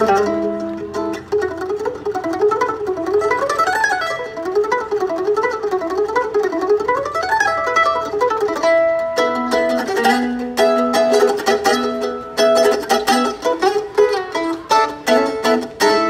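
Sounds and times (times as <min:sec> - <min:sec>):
mandolin playing fast tune: 0:00.0 - 0:16.0.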